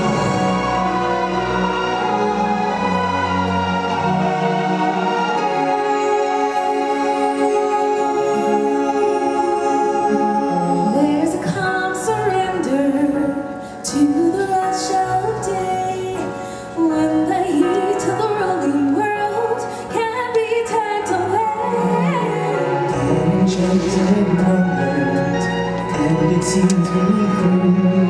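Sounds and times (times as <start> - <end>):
person singing: 0.0 - 28.0
sustained instrumental backing: 0.0 - 28.0.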